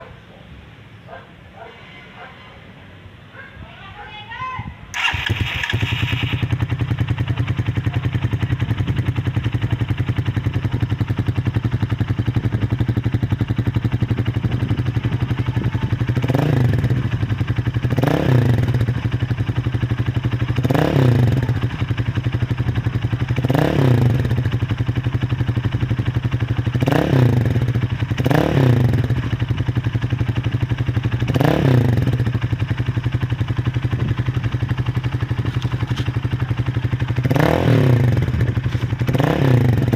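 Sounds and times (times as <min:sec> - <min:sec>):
motorcycle engine idling and revving: 0:04.9 - 0:39.9.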